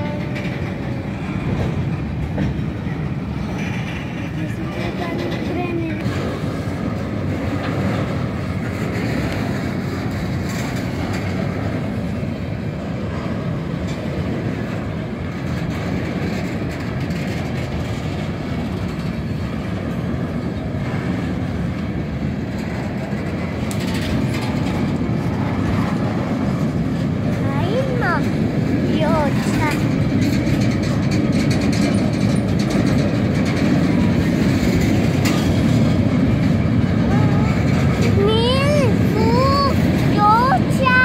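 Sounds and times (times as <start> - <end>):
steel wheels rolling on rails: 0.0 - 41.0.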